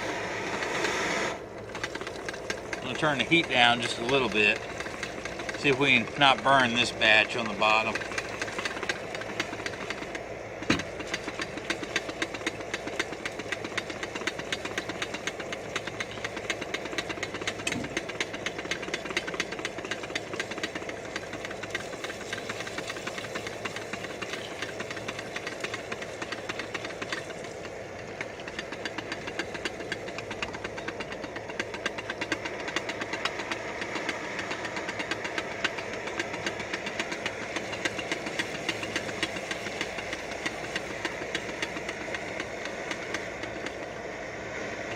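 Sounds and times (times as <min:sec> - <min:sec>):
stove burner running: 0:00.0 - 0:44.9.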